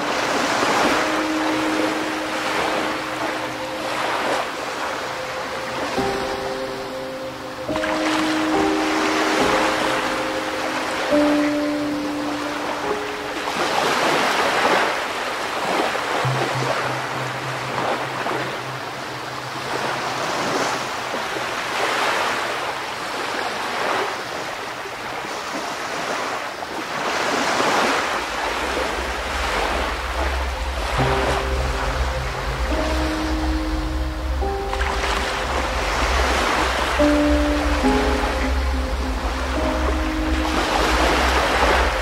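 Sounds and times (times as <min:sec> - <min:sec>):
soft background music: 0:00.0 - 0:23.2, 0:27.0 - 0:42.0
ocean surf waves: 0:00.0 - 0:42.0.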